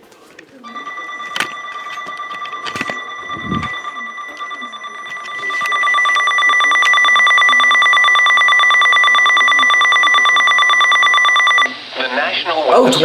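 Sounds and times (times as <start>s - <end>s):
electronic alert tone pulsing beep: 0.7s - 11.7s.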